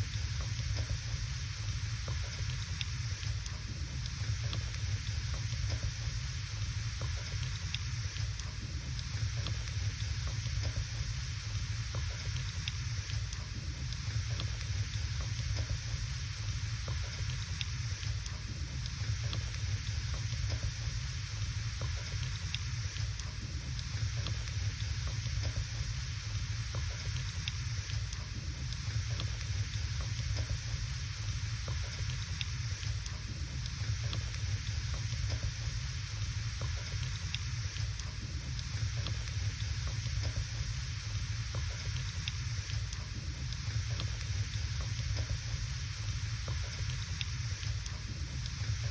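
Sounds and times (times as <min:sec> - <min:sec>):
fire low rumble and hiss: 0:00.0 - 0:48.9
wood fire crackling and popping: 0:00.0 - 0:48.9.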